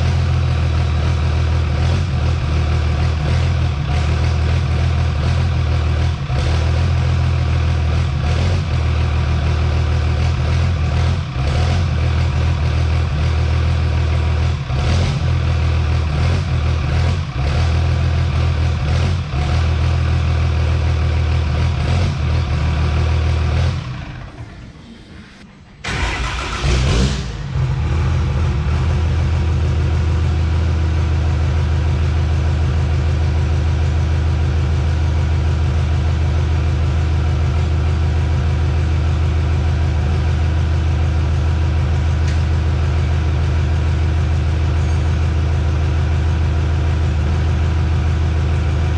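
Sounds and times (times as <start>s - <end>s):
diesel engine idling: 0.0s - 25.2s, 25.8s - 48.9s.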